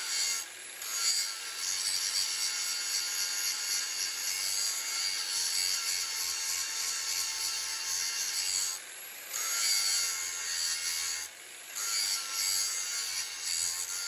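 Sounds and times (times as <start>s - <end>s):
grinding steel: 0.0s - 14.0s.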